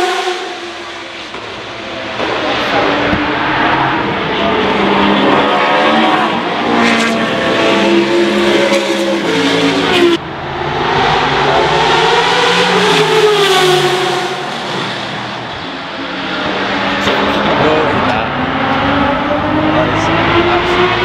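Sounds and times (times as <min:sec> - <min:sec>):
race car engines at full throttle: 0:00.0 - 0:21.0
race car passing: 0:00.0 - 0:21.0.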